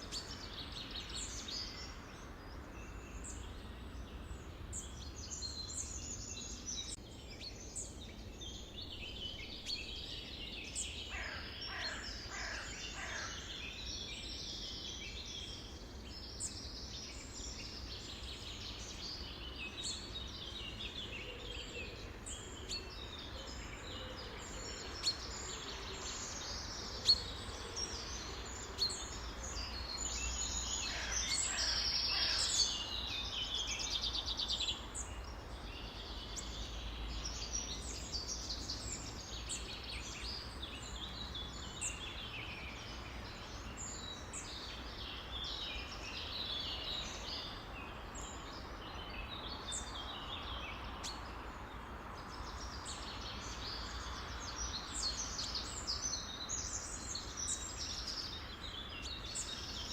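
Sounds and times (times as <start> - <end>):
chorus of songbirds chirping: 0.0 - 59.9.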